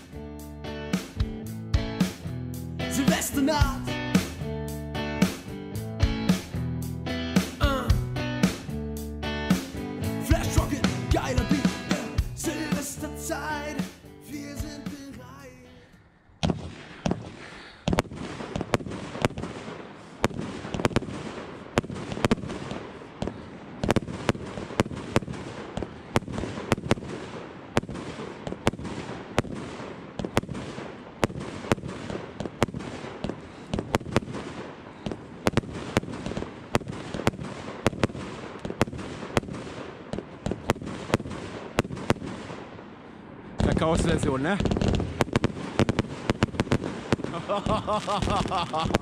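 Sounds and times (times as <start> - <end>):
firework launch and burst bangs: 0.0 - 0.2, 0.9 - 1.4, 2.0 - 2.3, 3.0 - 4.5, 5.2 - 5.5, 7.4 - 8.8, 9.5 - 14.1, 16.4 - 49.0.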